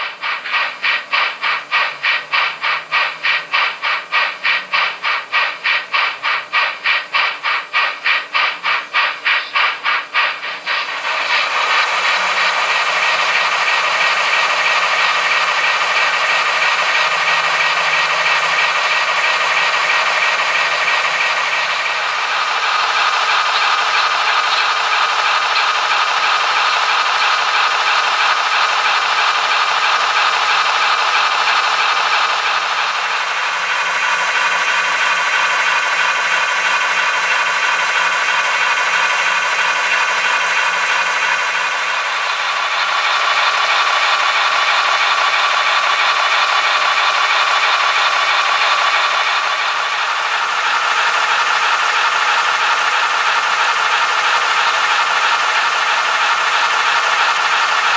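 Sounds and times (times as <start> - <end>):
model locomotive whirring rattle: 0.0 - 57.9.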